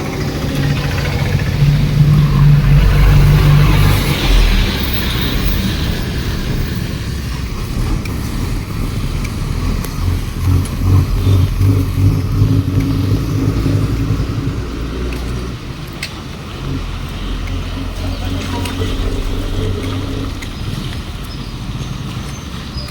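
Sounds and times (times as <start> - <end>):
vehicle engine rumbling: 0.0 - 22.9.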